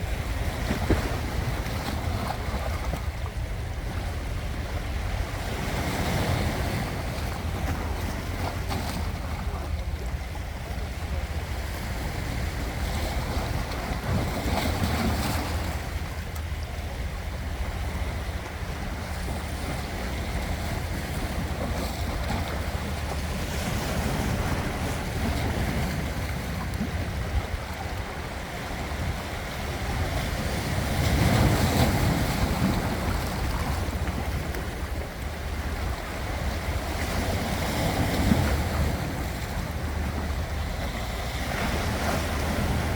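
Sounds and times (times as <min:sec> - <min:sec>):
ocean waves washing onto shore: 0:00.0 - 0:42.9.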